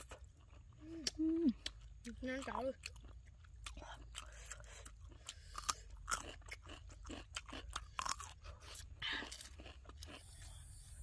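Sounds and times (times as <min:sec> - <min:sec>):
crisp crunches of cucumber chewing: 0:00.0 - 0:10.8.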